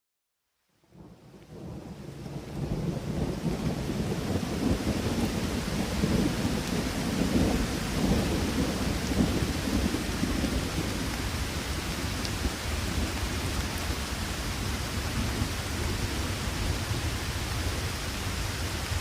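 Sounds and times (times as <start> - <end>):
steady rain: 0.4 - 19.0
distant thunder rumbling: 1.0 - 19.0.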